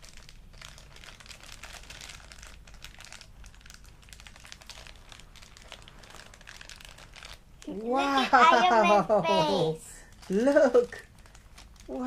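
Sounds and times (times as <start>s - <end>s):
plastic and cardboard crinkling: 0.0s - 12.0s.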